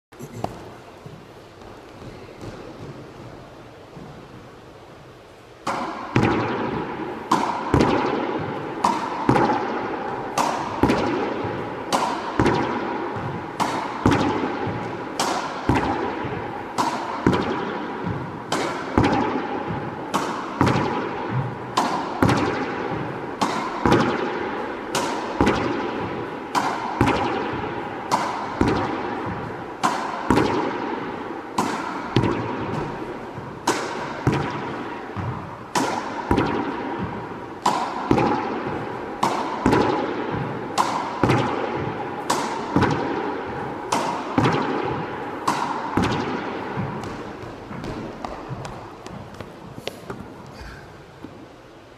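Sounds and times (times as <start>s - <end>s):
racket striking tennis ball: 0.2s - 4.5s, 5.6s - 51.5s
ball hitting wall and floor: 0.2s - 51.6s.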